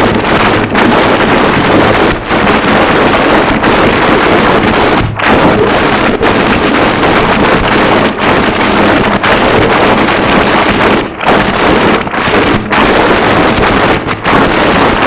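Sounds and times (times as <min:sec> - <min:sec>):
distorted static noise wall: 0:00.0 - 0:15.0.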